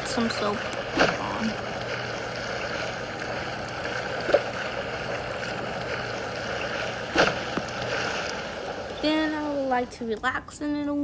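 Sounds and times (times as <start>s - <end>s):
running water: 0.0s - 10.9s.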